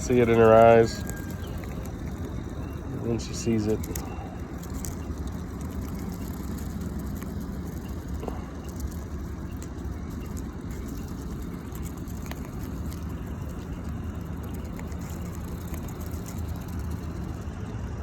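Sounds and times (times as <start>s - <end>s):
tractor engine rumbling: 0.0s - 18.0s.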